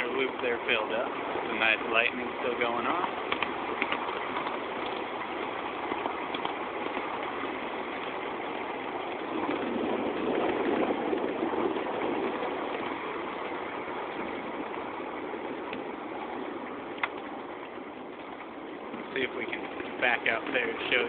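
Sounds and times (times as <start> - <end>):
tyres swishing through water: 0.0 - 21.0
vehicle running noise: 0.0 - 21.0.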